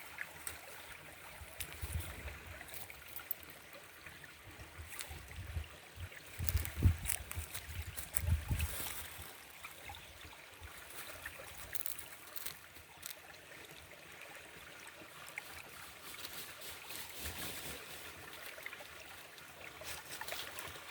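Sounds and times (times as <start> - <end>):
brook babbling: 0.0 - 20.9.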